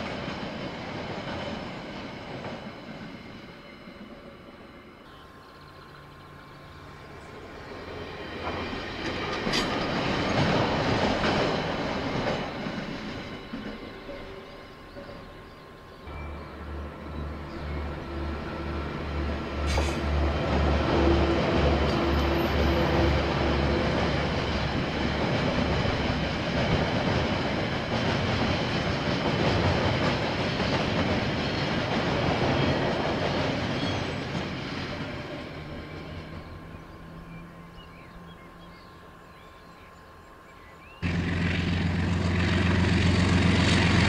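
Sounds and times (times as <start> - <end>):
diesel locomotive engine humming: 0.0 - 44.0
train rumbling past: 0.0 - 44.0.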